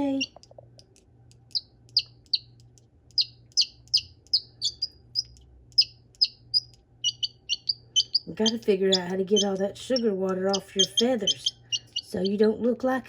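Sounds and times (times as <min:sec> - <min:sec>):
baby chick peeping: 0:00.0 - 0:13.0.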